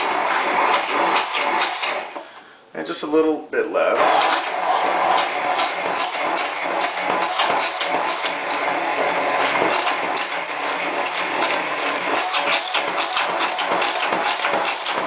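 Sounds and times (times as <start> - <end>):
blender clicks and clatters: 0.0 - 2.3, 4.0 - 15.0
immersion blender running: 0.0 - 2.3, 4.0 - 15.0.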